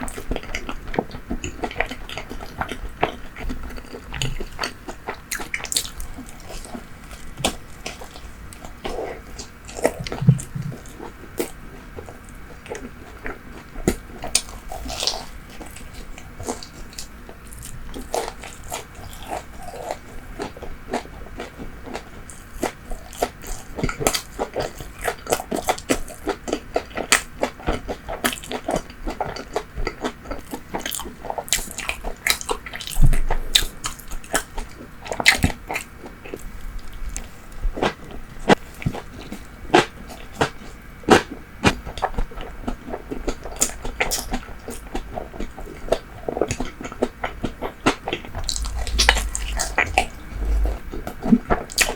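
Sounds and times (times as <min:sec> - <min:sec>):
chewing crunchy food: 0:00.0 - 0:51.9.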